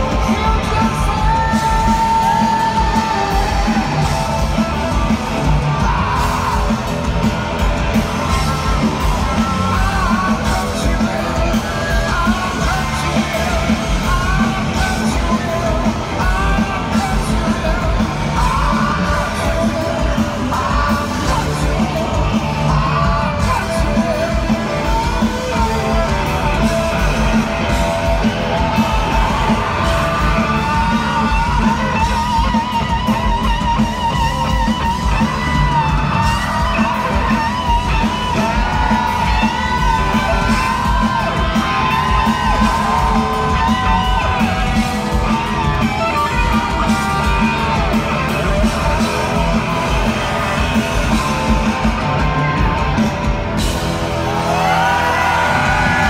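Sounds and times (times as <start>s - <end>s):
person singing: 0.0s - 52.6s
electric guitars: 0.0s - 56.0s
live rock band: 0.0s - 56.0s.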